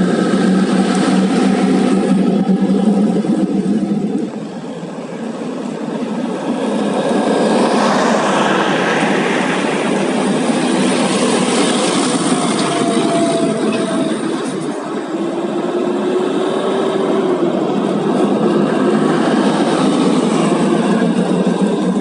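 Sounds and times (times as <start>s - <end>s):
truck engine humming: 0.0s - 22.0s
truck passing close by: 0.0s - 22.0s.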